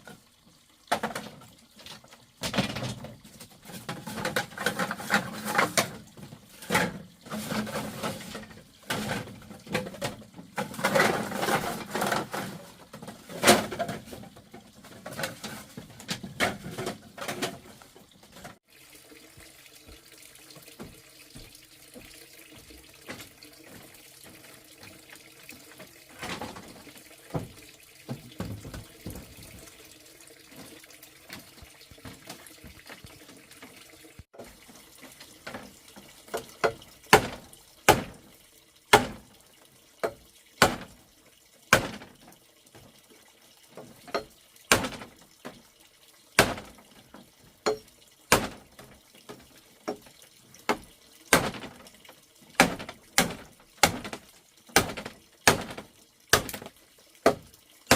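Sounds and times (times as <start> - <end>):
water sounds: 0.0 - 57.9.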